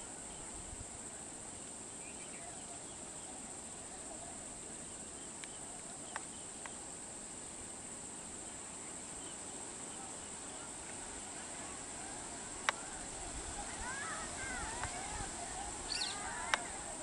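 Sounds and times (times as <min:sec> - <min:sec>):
faint chirps: 0:00.0 - 0:17.0
insects droning: 0:00.0 - 0:17.0.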